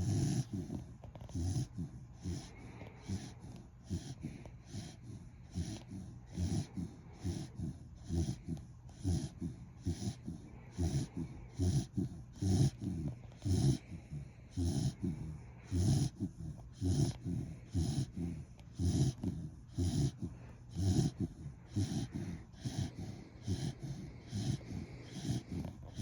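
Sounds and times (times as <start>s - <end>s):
dog snoring: 0.0s - 26.0s.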